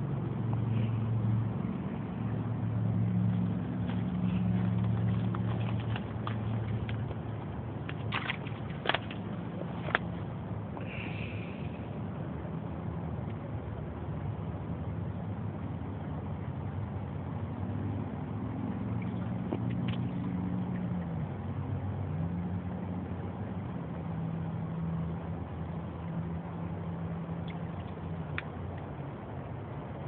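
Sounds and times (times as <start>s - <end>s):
low engine running: 0.0s - 30.0s.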